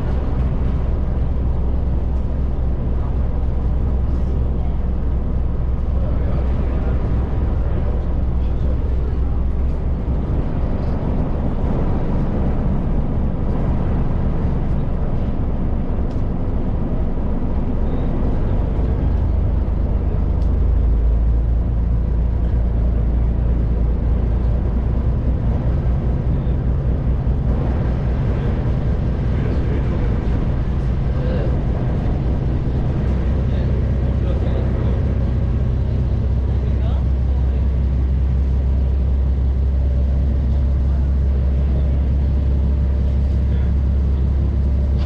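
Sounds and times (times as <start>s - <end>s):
diesel engine drone: 0.0s - 45.0s
water noise: 0.0s - 45.0s
wind: 0.0s - 45.0s.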